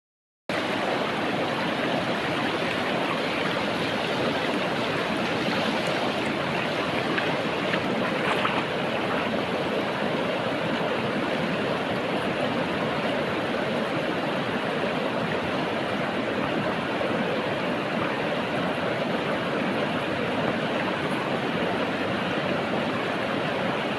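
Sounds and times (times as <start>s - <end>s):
flowing stream: 0.5s - 23.9s.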